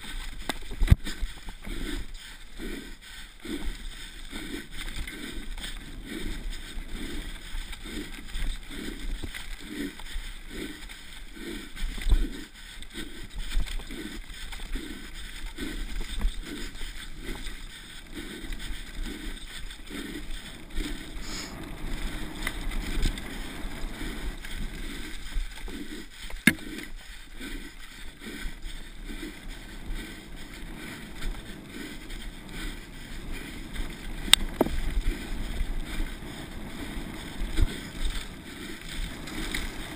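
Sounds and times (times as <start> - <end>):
bike tyres on dirt track: 0.0 - 39.9
person panting hard: 0.0 - 39.9
wind: 0.0 - 39.9.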